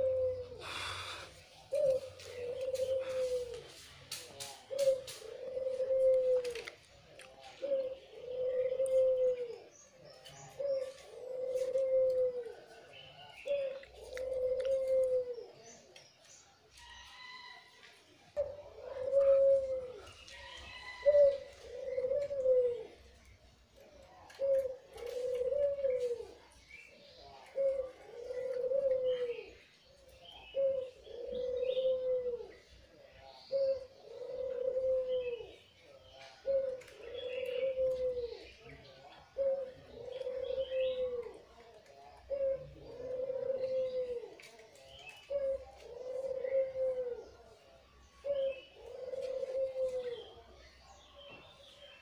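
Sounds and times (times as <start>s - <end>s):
dove cooing: 0.0s - 15.9s, 18.2s - 52.0s.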